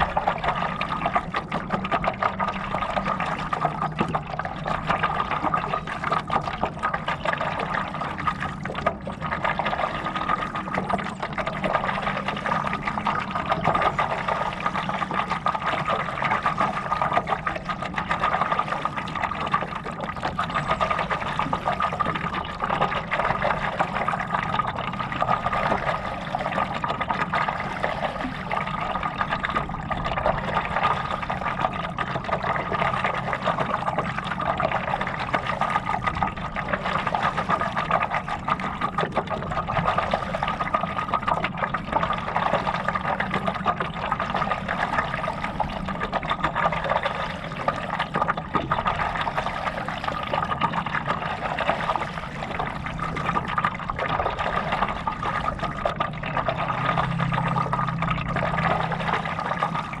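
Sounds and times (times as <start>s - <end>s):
steady hum: 0.0s - 60.0s
water sloshing and splashing: 0.0s - 60.0s.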